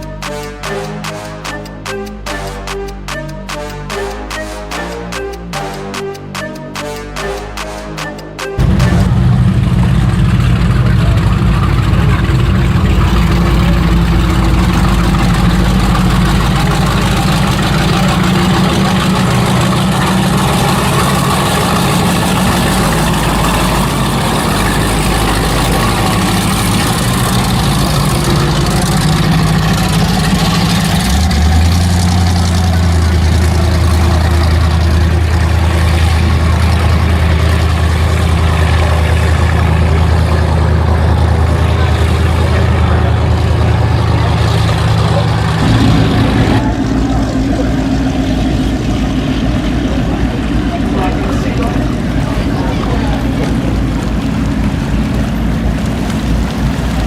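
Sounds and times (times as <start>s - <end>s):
boat engines idling: 0.0s - 57.0s
lower boat engine tone: 0.0s - 57.0s.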